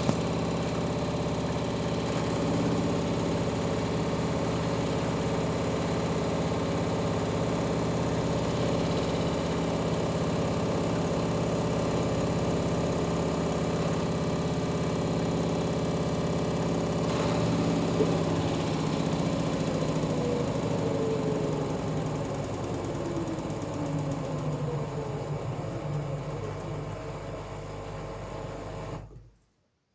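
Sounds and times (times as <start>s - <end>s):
washing machine humming: 0.0s - 29.2s.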